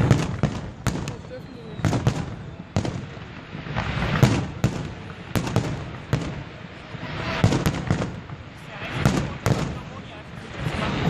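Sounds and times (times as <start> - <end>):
fireworks crackle: 0.0 - 11.0
fireworks exploding: 0.0 - 11.0.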